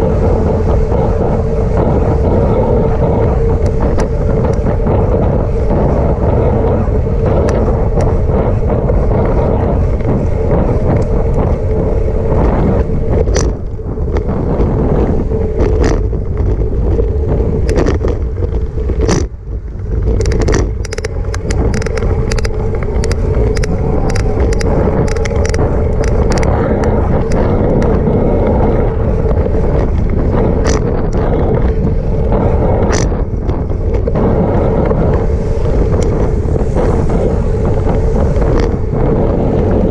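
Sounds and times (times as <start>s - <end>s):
bicycle clicks and rattles: 0.0s - 39.9s
steady hum: 0.0s - 39.9s
tyre rumble: 0.0s - 39.9s
wind rushing over microphone: 0.0s - 39.9s.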